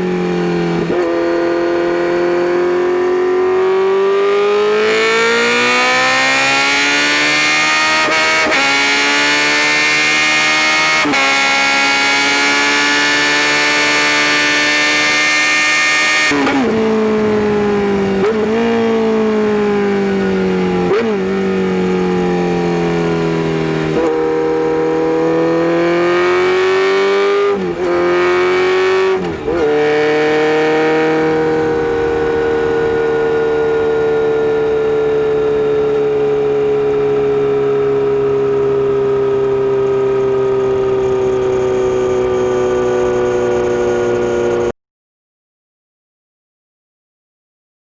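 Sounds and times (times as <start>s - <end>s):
motorcycle engine revving: 0.0s - 44.8s.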